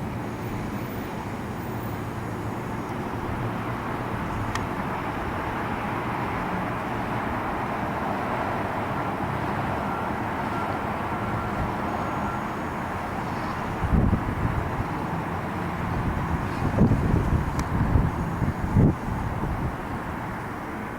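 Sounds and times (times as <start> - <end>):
distant aircraft engine: 0.0 - 20.9.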